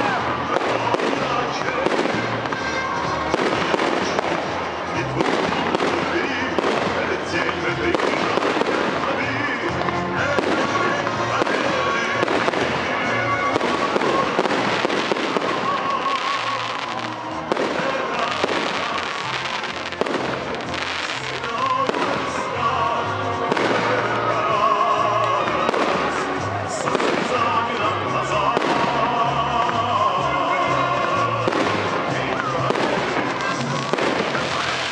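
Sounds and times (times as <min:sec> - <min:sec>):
fireworks bursting and crackling: 0:00.0 - 0:34.9
loud music with bass line: 0:00.0 - 0:34.9.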